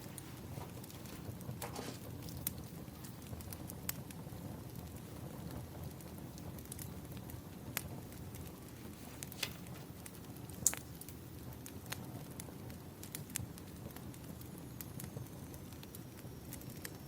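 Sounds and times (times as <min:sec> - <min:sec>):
low rumble of burning logs: 0:00.0 - 0:17.0
sharp pops of fire: 0:00.0 - 0:17.0
wood fire crackling: 0:00.0 - 0:17.0.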